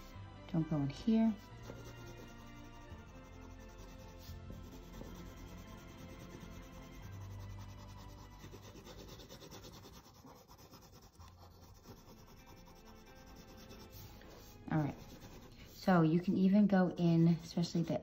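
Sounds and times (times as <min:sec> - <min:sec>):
pencil scratching on paper: 0:00.0 - 0:18.0.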